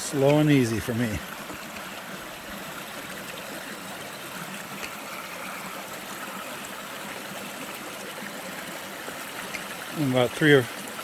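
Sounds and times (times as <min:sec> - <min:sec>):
creek water flowing over rocks: 0:00.0 - 0:11.0.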